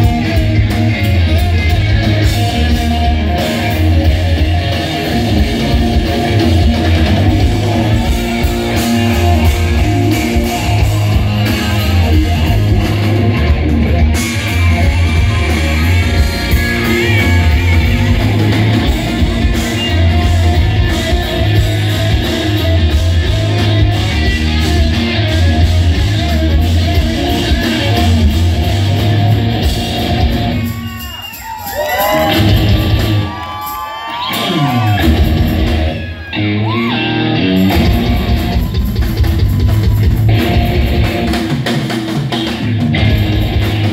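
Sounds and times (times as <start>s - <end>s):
bass guitar: 0.0s - 43.9s
drums: 0.0s - 43.9s
electric guitars: 0.0s - 43.9s.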